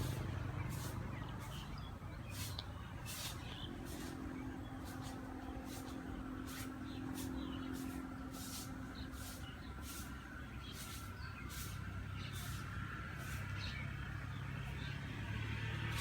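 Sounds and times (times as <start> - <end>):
low steady hum: 0.0 - 13.2.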